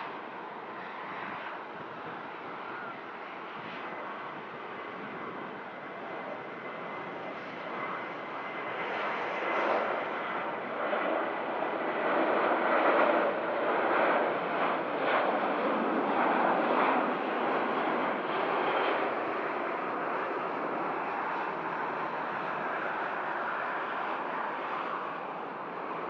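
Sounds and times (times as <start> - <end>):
airliner engines passing: 0.0 - 26.0.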